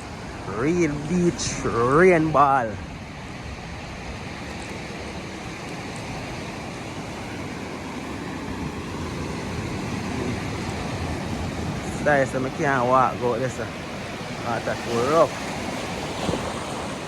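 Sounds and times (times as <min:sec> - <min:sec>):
sea surf breaking: 0:00.0 - 0:17.0
wind on microphone: 0:00.0 - 0:17.0.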